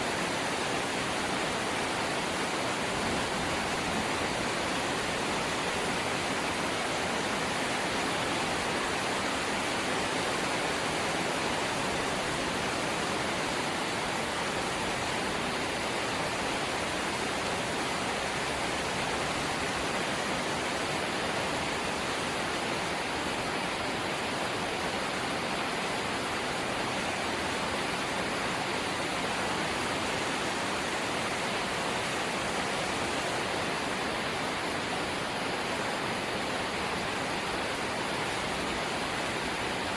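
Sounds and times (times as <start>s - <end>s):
light rain: 0.0s - 39.9s.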